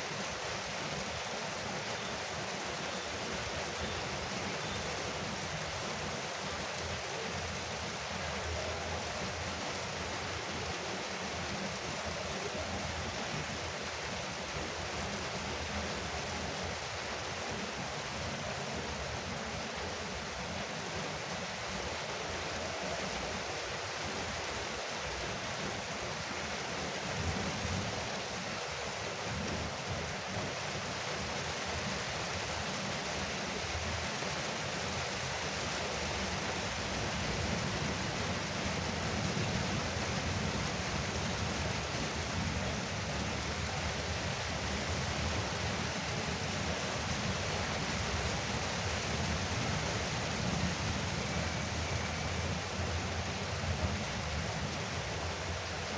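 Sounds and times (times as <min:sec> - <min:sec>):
rain on a roof: 0:00.0 - 0:55.9.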